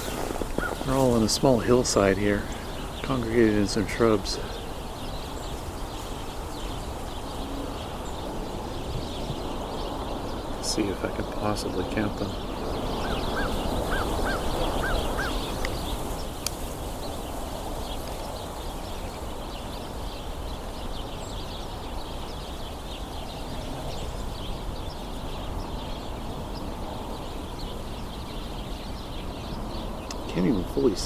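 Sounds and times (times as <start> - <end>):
low background noise: 0.0 - 31.0
sparrows chattering: 0.0 - 31.0.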